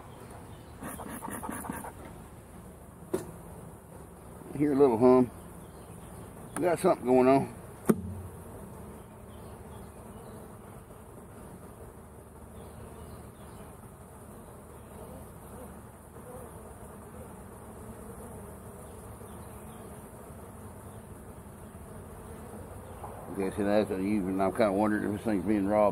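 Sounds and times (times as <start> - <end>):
honeybees humming: 0.0 - 25.9.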